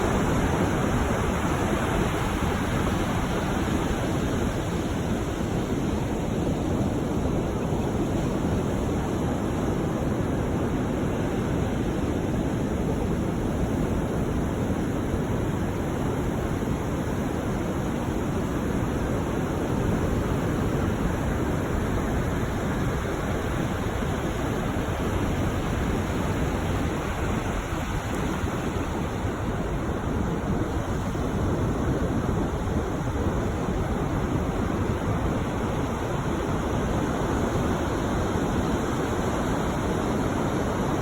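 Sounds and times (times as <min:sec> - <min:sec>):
surf of breaking waves: 0:00.0 - 0:41.0.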